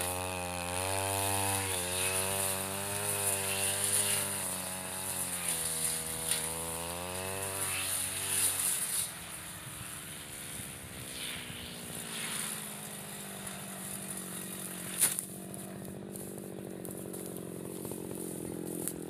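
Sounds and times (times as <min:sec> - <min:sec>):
brush cutter engine idling: 0:00.0 - 0:19.0.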